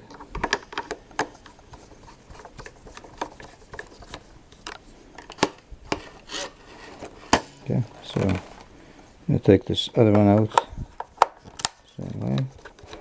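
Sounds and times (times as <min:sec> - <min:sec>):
plastic parts handled: 0:00.0 - 0:08.7, 0:10.0 - 0:13.0.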